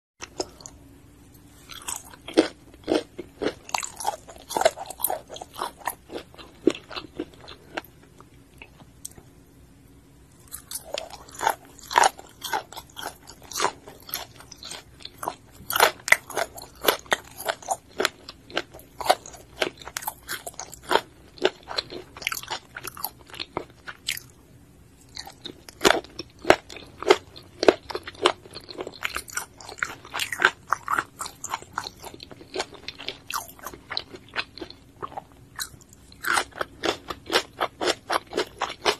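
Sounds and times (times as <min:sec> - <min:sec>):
person biting and chewing food: 0:01.6 - 0:09.2, 0:10.4 - 0:24.3, 0:25.1 - 0:38.9.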